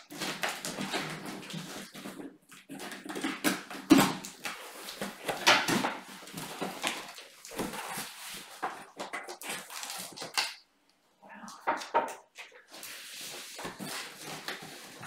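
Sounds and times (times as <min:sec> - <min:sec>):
cardboard and paper rustling: 0:00.0 - 0:10.6, 0:12.4 - 0:15.0.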